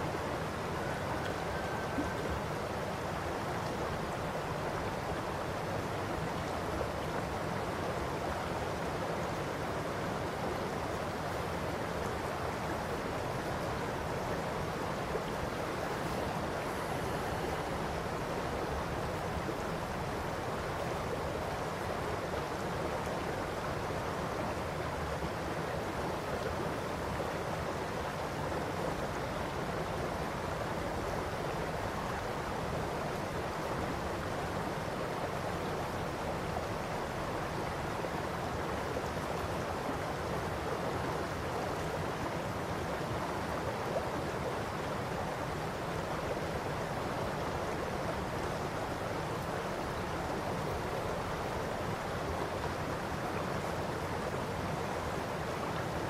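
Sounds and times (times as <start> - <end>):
river babbling over stones: 0.0 - 56.0.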